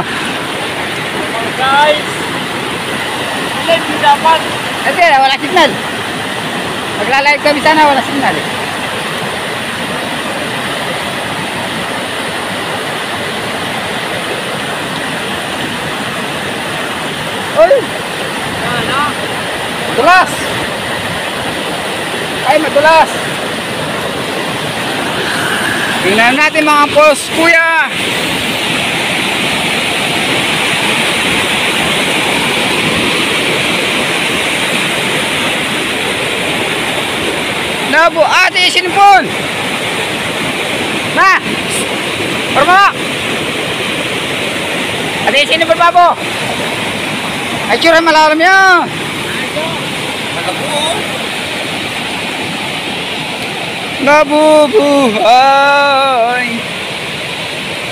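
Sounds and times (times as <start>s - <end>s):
waterfall rushing over rock: 0.0s - 57.9s.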